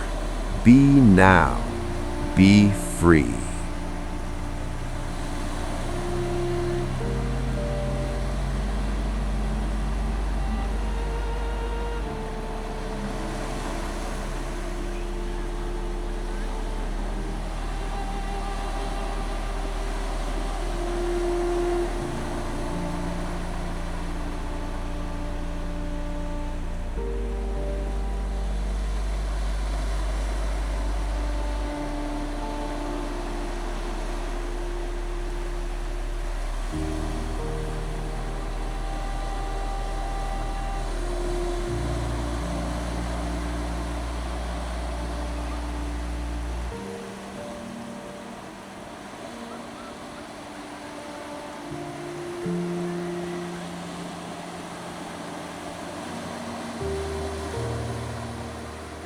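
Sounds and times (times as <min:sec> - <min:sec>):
ambient meditation music: 0:00.0 - 0:59.0
ocean waves: 0:00.0 - 0:59.0.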